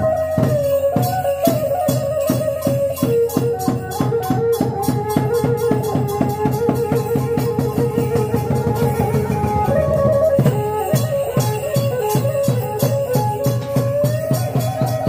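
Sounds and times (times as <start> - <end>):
drums and cymbals beat: 0.0 - 15.0
wavering melody line: 0.0 - 15.0.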